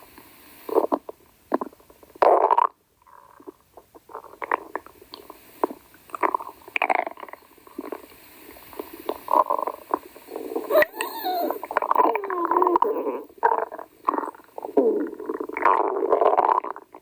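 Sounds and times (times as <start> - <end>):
stomach growling: 0.8 - 4.9, 5.6 - 8.0, 8.7 - 17.0.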